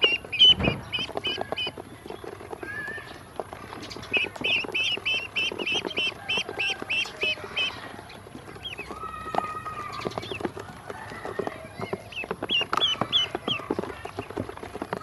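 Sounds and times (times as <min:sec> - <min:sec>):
bills pecking plastic basin: 0:00.0 - 0:15.0
ducklings peeping: 0:00.0 - 0:15.0.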